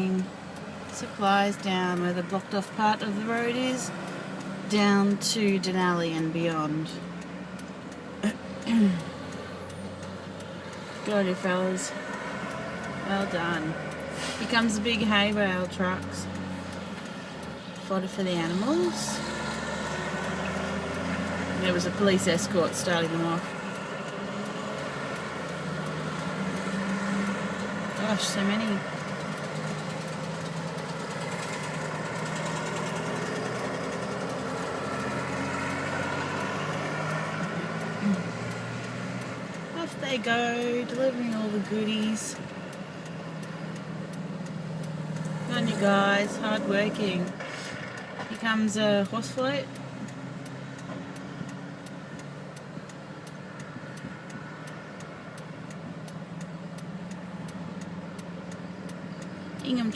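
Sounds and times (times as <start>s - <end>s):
faint high ticks: 0.0s - 59.9s
vehicle engines humming: 0.0s - 59.9s.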